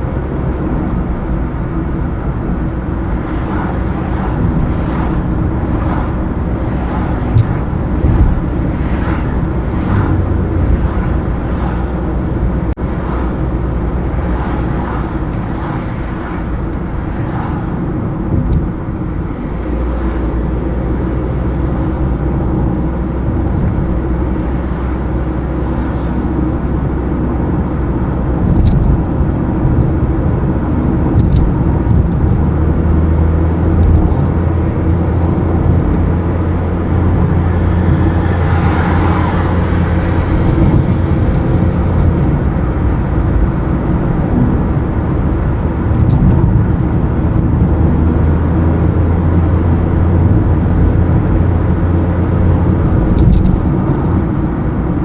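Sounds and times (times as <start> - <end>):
car engine hum: 0.0 - 55.0
tyre and road noise: 0.0 - 55.0.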